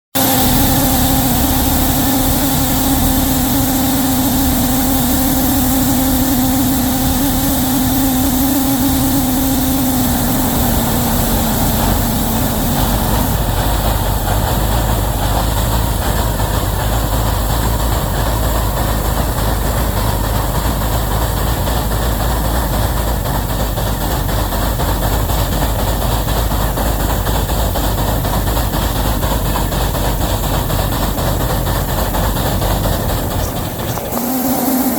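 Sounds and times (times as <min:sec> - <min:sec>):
steady held tone: 0:00.1 - 0:34.9
locomotive mechanical rumble: 0:00.2 - 0:34.8.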